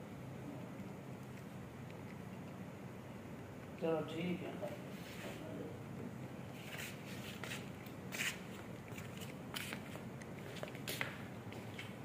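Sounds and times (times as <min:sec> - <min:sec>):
low background hum: 0:00.0 - 0:12.0
cat chewing dry kibble: 0:00.5 - 0:05.0, 0:06.0 - 0:12.0.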